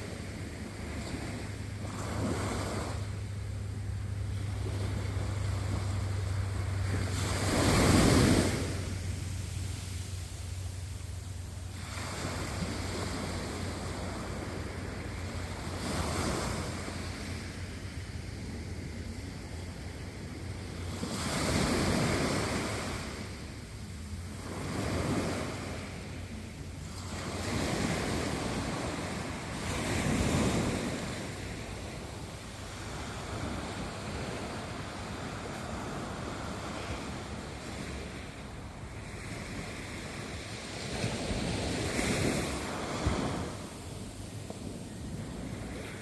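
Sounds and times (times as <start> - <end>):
ocean waves breaking: 0.0 - 46.0
wind rumbling on microphone: 0.0 - 46.0.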